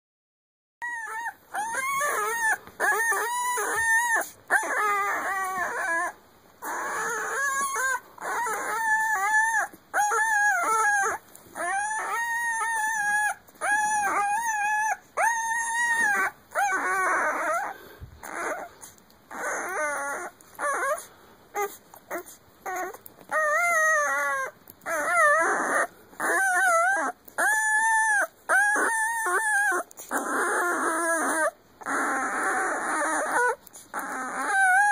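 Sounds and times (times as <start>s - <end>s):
puppy whining: 0.8s - 34.9s.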